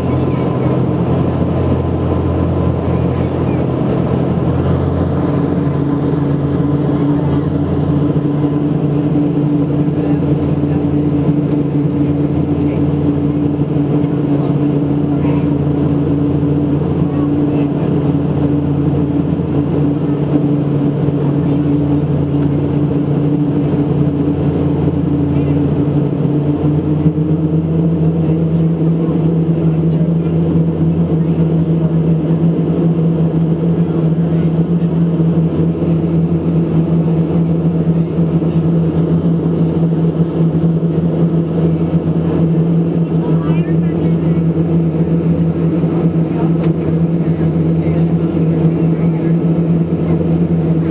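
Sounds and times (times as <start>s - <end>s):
aircraft engine and propeller drone: 0.0s - 50.9s
broad rushing noise: 0.0s - 50.9s
low hum tones: 0.0s - 50.9s.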